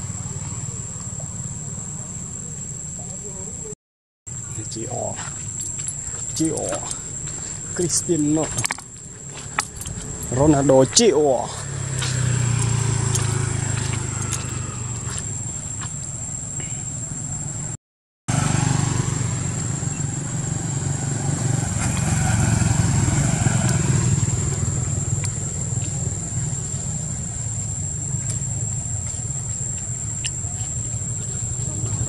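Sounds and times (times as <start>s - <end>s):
high-pitched insect drone: 0.0s - 17.7s, 18.3s - 32.0s
motorbike traffic rumble: 0.0s - 32.0s.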